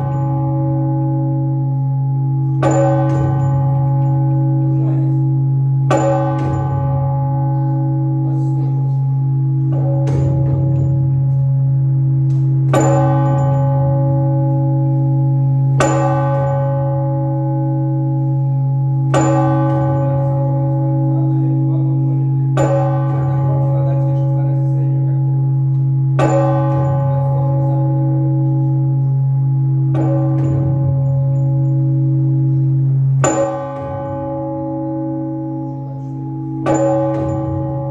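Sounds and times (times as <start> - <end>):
large church bell ringing: 0.0 - 37.9.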